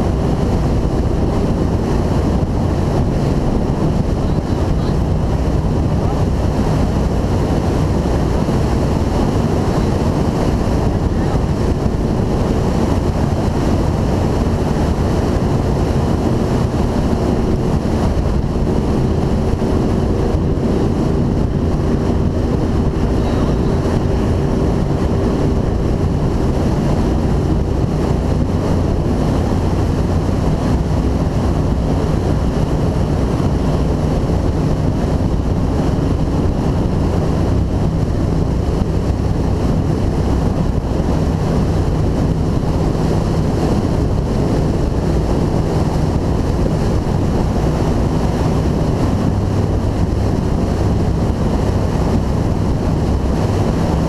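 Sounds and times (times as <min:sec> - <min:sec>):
boat engines droning: 0:00.0 - 0:54.0
water rushing past hull: 0:00.0 - 0:54.0
wind buffeting microphone: 0:00.0 - 0:54.0.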